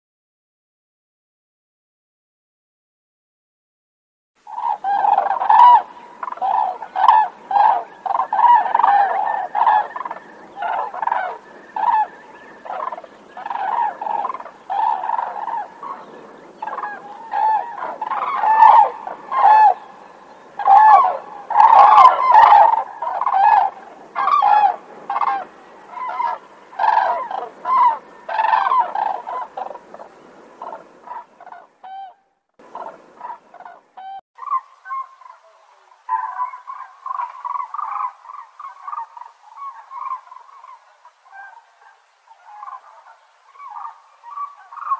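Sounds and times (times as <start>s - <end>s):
cranes calling: 4.5s - 44.9s.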